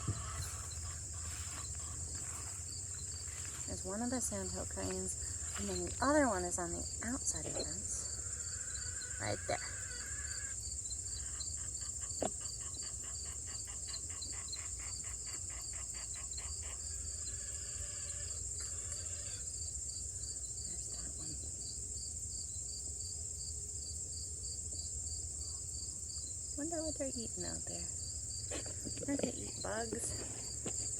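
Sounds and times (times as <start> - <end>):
insects buzzing and chirping: 0.0 - 30.9.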